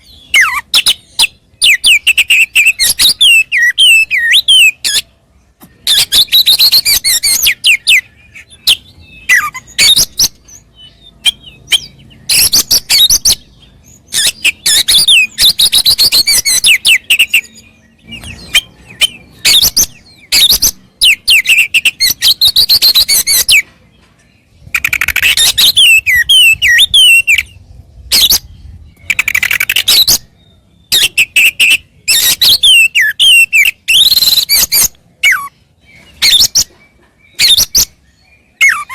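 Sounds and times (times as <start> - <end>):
bird singing whistles and chirps: 0.0 - 23.7, 24.4 - 38.9.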